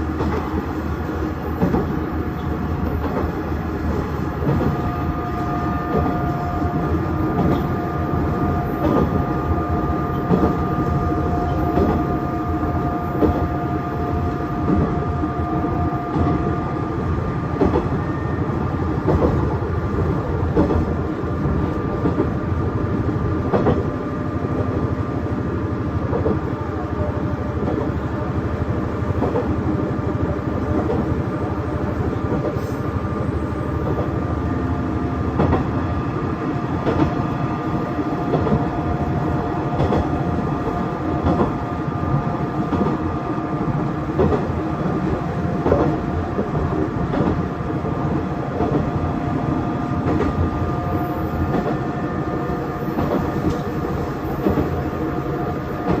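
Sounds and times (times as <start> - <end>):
railcar rumbling: 0.0 - 56.0.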